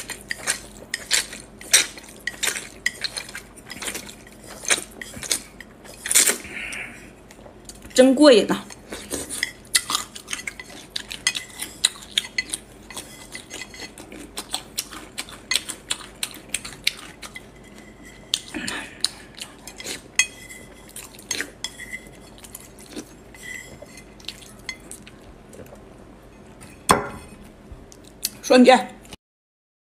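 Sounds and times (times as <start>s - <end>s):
chewing: 0.0s - 8.0s, 8.6s - 25.9s.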